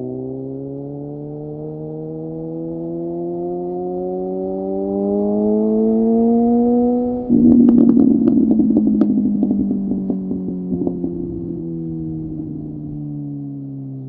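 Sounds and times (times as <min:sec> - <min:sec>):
synthesized tone rising in pitch: 0:00.0 - 0:14.0.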